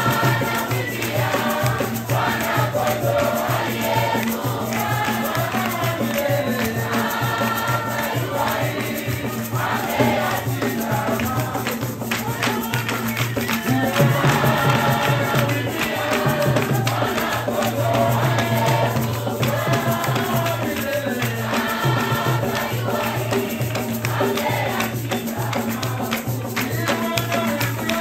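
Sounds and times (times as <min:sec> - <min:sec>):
shaker rattle: 0:00.0 - 0:28.0
voices singing together: 0:00.0 - 0:28.0.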